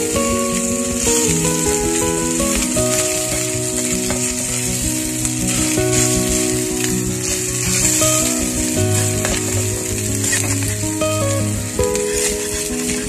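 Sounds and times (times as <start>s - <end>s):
background music with held notes: 0.0s - 13.0s
oil sizzling in a frying pan: 0.0s - 13.0s.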